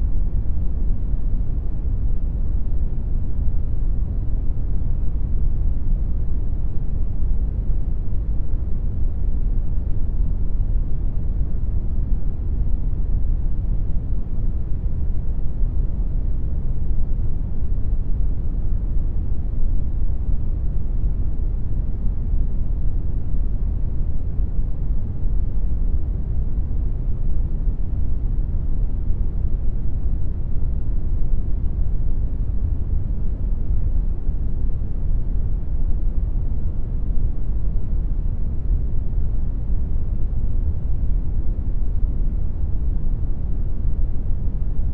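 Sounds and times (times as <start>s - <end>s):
brown noise rumbling hiss: 0.0s - 44.9s.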